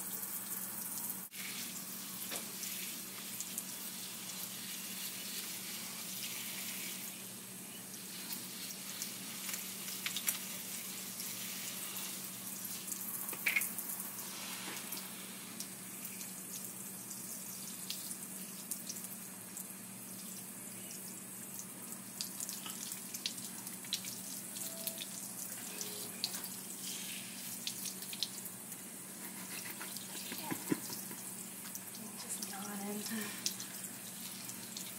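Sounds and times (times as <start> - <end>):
water splashes and drips: 0.0 - 7.1, 7.9 - 11.5, 12.2 - 28.9, 29.6 - 34.9.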